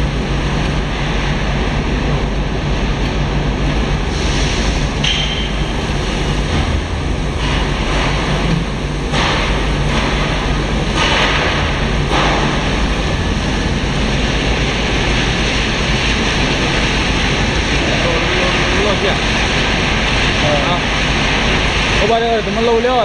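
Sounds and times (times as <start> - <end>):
conveyor machinery rushing noise: 0.0 - 23.0
low machine hum: 0.0 - 23.0.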